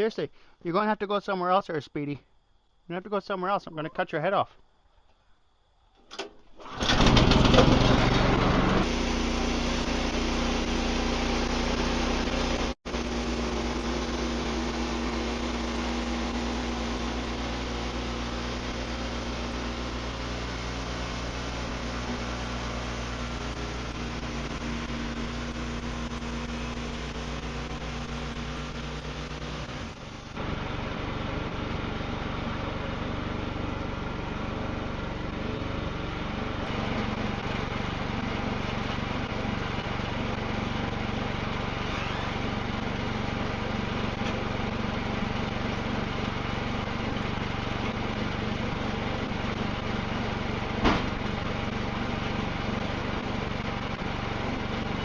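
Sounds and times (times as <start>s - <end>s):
bandsaw mill sawing a log: 6.6s - 55.0s.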